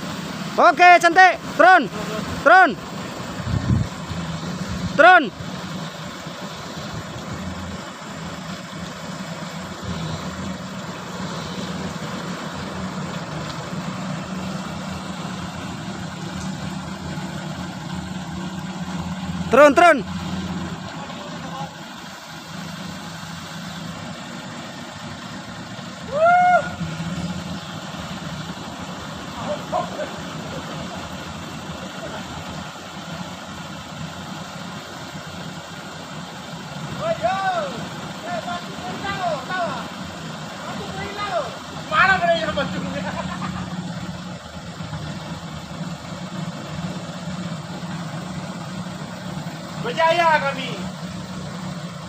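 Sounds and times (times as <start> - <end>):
heavy machinery engine humming: 0.0 - 52.0.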